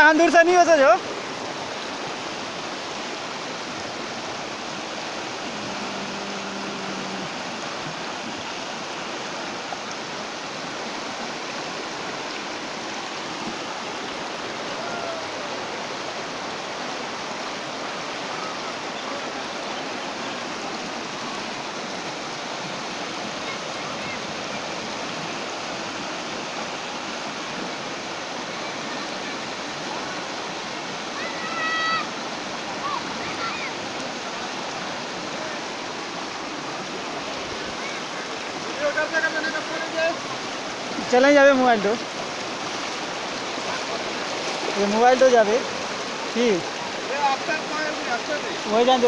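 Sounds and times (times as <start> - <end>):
floodwater rushing: 0.0 - 49.0.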